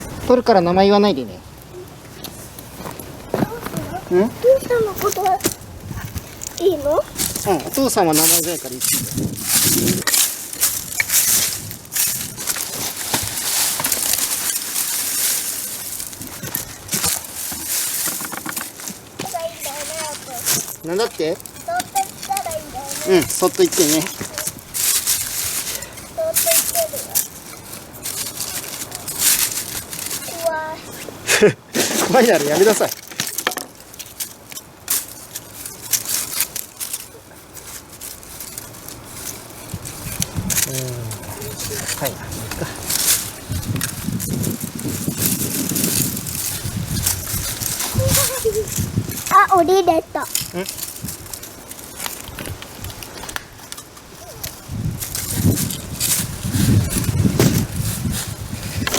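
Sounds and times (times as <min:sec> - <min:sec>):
footsteps crunching through dry leaves: 0:00.0 - 0:58.9.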